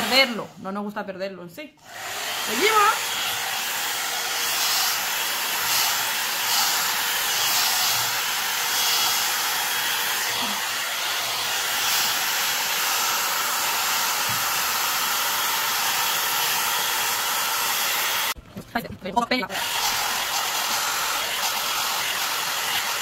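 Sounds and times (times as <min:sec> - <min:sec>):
hot-air brush blowing: 0:00.0 - 0:00.5, 0:01.8 - 0:18.4, 0:19.5 - 0:23.0.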